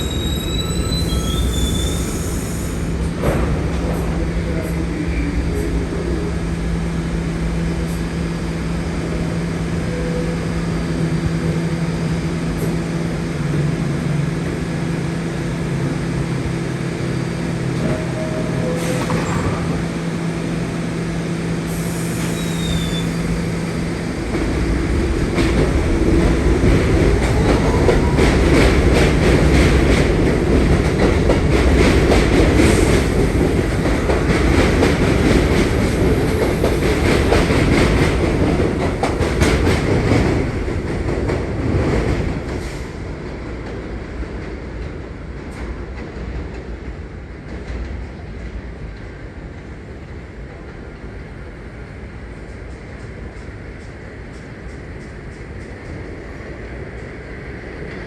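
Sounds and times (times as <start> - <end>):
subway train wheels clacking: 0.0 - 58.0.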